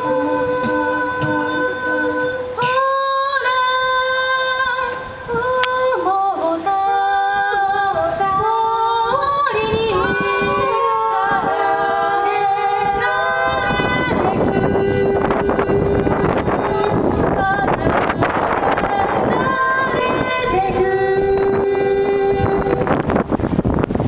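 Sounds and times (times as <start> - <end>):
a cappella group singing: 0.0 - 23.3.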